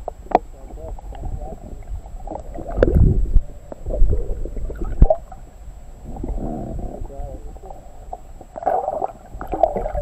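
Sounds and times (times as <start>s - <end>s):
water sloshing and gurgling: 0.0s - 10.0s.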